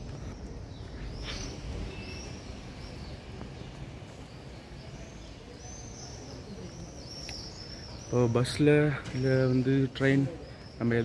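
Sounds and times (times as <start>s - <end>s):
small birds chirping: 0.0s - 11.0s
street noise rumble: 0.0s - 11.0s.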